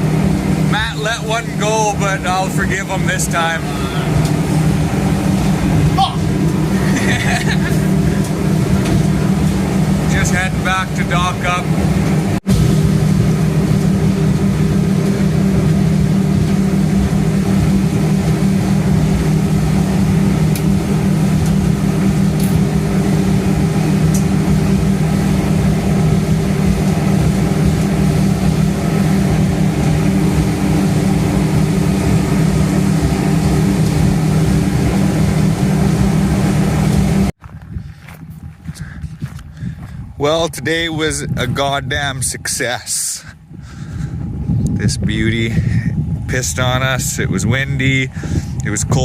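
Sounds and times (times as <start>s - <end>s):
outboard motors droning: 0.0s - 49.0s.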